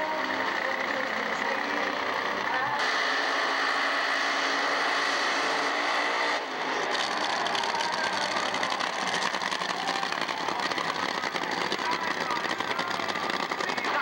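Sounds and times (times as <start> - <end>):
drag racing engines at full throttle: 0.0 - 14.0.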